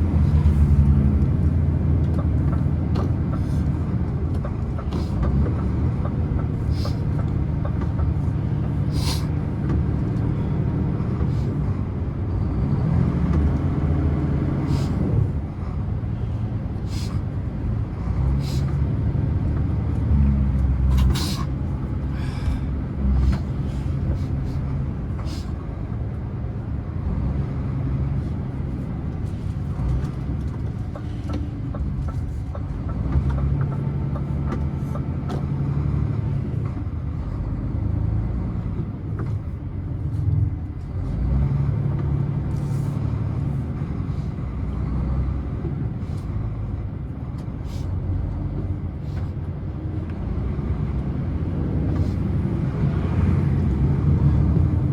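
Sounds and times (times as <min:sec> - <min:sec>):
truck engine and road rumble: 0:00.0 - 0:54.9.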